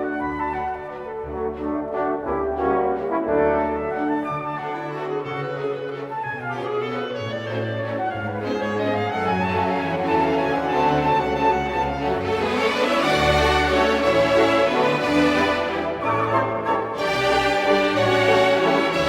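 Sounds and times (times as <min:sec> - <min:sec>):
brass-led orchestral music: 0:00.0 - 0:19.0.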